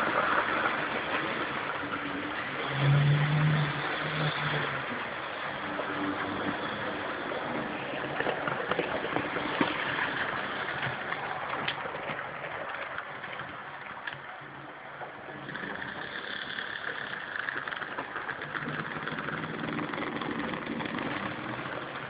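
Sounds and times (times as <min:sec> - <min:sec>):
model trains rumbling on track: 0:00.0 - 0:22.0.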